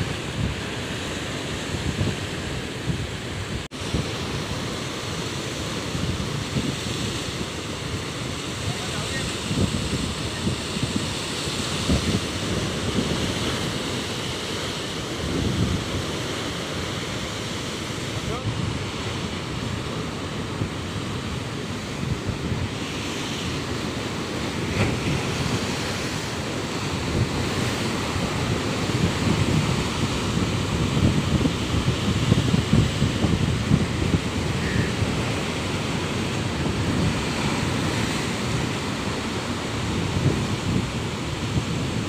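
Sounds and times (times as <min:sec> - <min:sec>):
wind noise on microphone: 0:00.0 - 0:42.0
waves breaking on rocks: 0:03.8 - 0:42.0.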